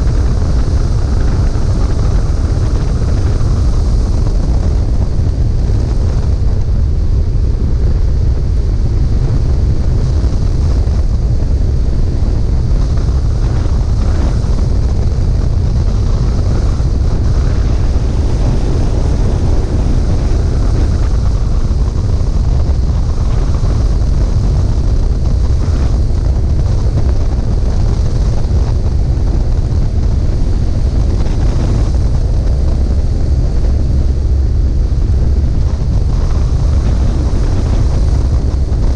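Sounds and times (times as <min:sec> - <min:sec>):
aircraft noise: 0:00.0 - 0:38.9
wind rushing on microphone: 0:00.0 - 0:38.9.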